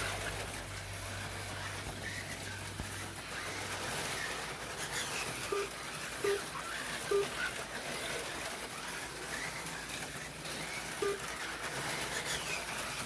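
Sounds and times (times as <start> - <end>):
slot car motors whirring: 0.0 - 13.0.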